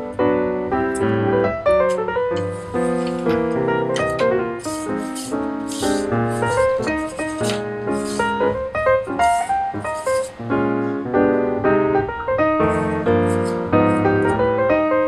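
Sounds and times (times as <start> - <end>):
keyboard background music: 0.0 - 15.0.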